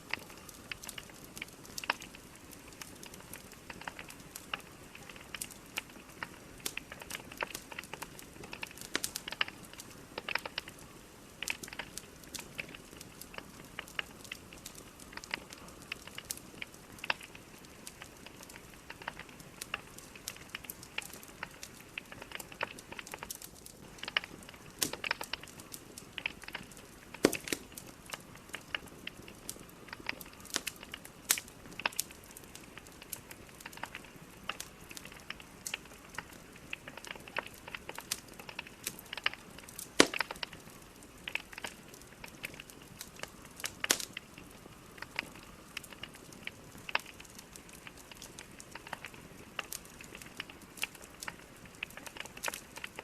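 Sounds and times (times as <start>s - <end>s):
fire pops: 0.0s - 53.0s
logs crackling in fireplace: 0.0s - 53.0s
soft steady hiss: 0.0s - 53.0s.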